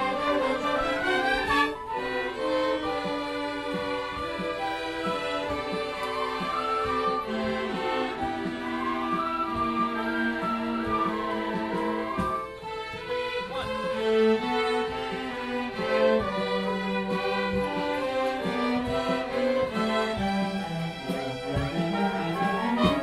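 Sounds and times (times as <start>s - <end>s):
orchestra bowed strings: 0.0s - 23.0s.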